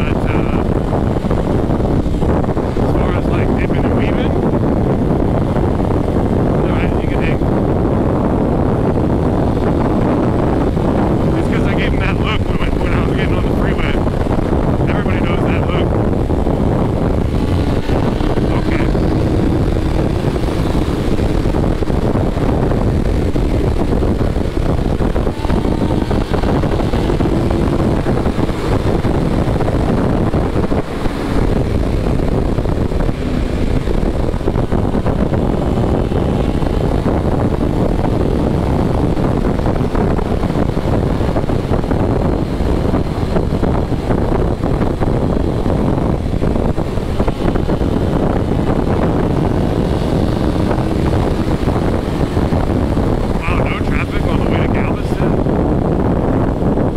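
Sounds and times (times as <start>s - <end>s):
motorcycle engine running: 0.0s - 56.9s
wind roaring over microphone: 0.0s - 56.9s.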